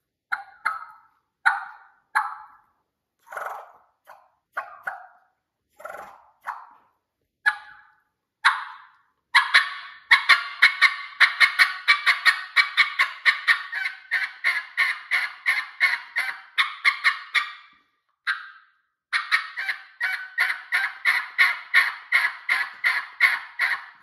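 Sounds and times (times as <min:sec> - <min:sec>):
turkey mouth call yelping: 0:00.3 - 0:02.6, 0:03.3 - 0:05.2, 0:07.4 - 0:17.6, 0:19.1 - 0:24.0.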